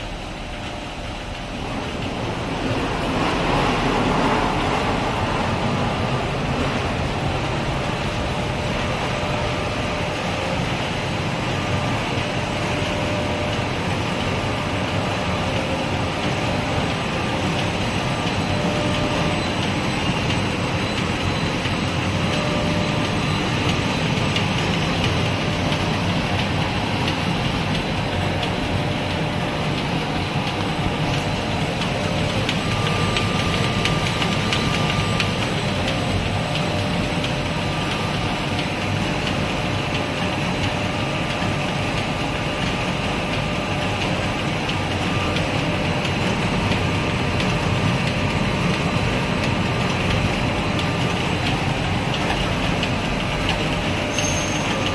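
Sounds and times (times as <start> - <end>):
faint machine whine: 0.0 - 54.9
machine hum and whir of rollers: 0.0 - 54.9.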